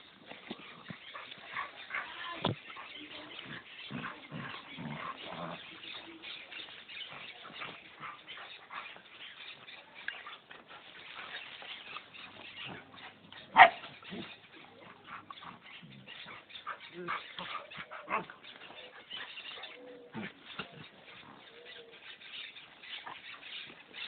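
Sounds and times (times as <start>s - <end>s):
dogs vocalising while play-fighting: 0.0s - 24.0s.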